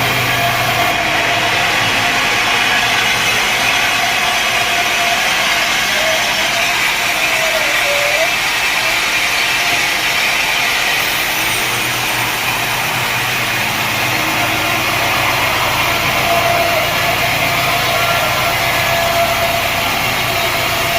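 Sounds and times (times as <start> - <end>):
sawmill machinery running: 0.0 - 20.9
thin whine: 0.0 - 20.9.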